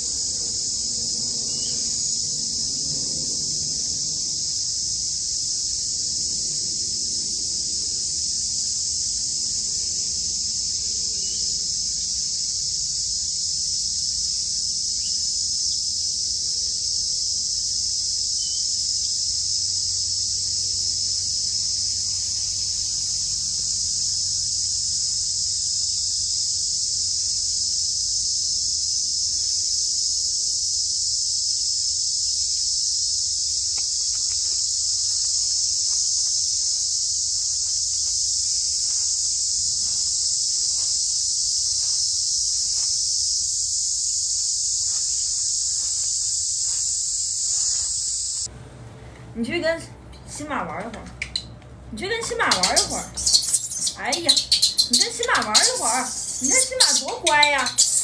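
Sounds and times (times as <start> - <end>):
insects buzzing: 0.0 - 48.5, 49.4 - 58.0.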